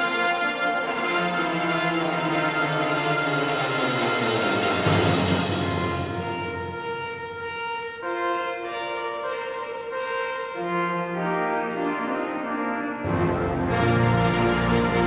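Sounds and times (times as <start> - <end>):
brass ensemble playing hymn chords: 0.0 - 15.0.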